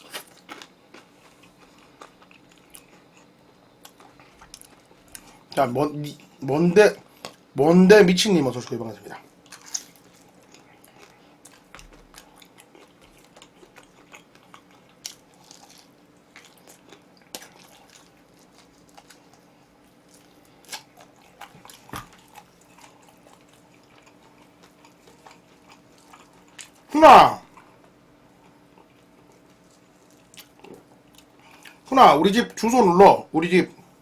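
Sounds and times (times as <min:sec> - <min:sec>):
person chewing crunchy food: 0:00.0 - 0:05.6, 0:09.3 - 0:26.9, 0:27.5 - 0:31.9.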